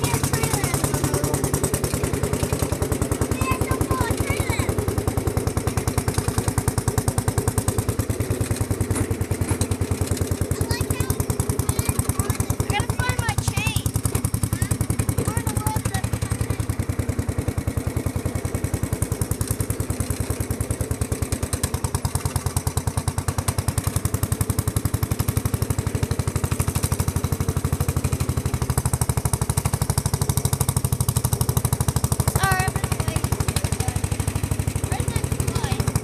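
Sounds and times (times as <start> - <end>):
lawn tractor engine popping: 0.0 - 36.0.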